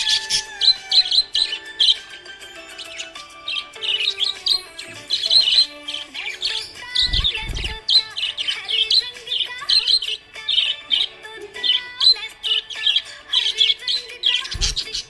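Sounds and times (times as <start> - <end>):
background music with held notes: 0.0 - 15.0
parrots chirping and twittering: 0.0 - 15.0.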